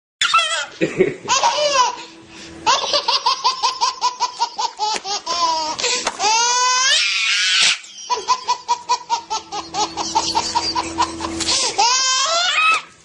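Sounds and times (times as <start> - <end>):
high-pitched laughter: 0.2 - 12.8.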